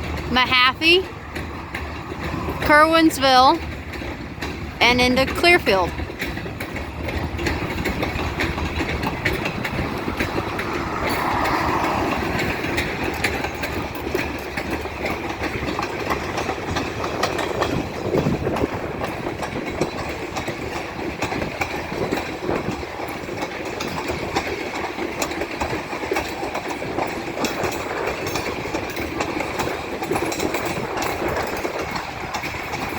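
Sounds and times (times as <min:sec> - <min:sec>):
freight train rolling past: 0:00.0 - 0:32.9
wheels clicking over rail joints: 0:00.0 - 0:32.9.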